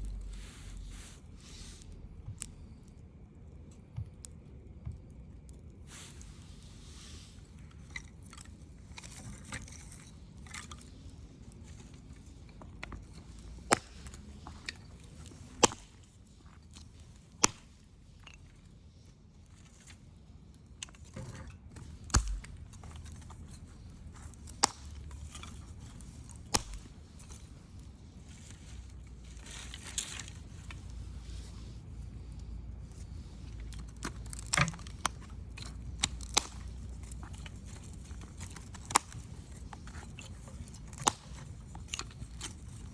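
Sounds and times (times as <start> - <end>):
campfire crackling and popping: 0.0 - 9.2, 9.8 - 18.8, 19.4 - 42.9
low steady rumble: 0.0 - 18.6, 21.7 - 42.9.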